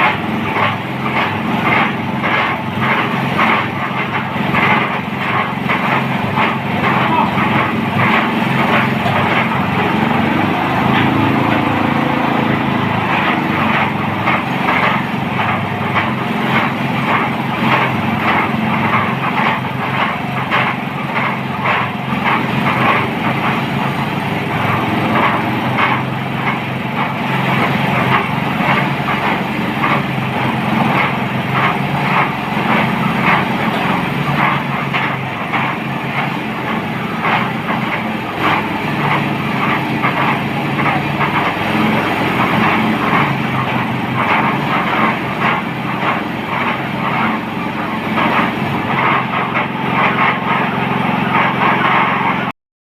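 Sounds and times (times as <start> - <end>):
drilling machine engine pulsing: 0.0 - 52.6.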